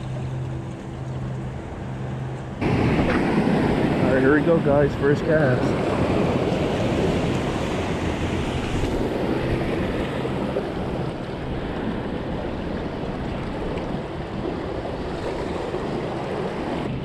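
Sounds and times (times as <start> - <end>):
ocean surf against rocks: 0.0 - 17.0
wind rumbling on microphone: 0.0 - 17.0.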